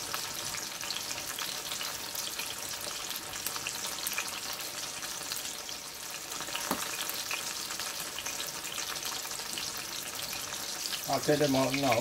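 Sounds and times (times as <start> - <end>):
slices frying in hot oil: 0.0 - 12.0.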